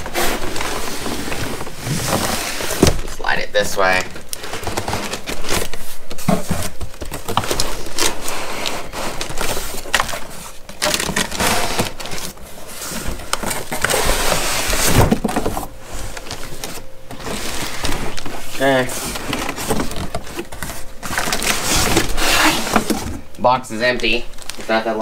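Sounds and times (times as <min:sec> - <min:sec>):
cardboard scraping: 0:00.0 - 0:03.2, 0:03.8 - 0:23.2
plastic wrap crinkling: 0:00.0 - 0:25.0.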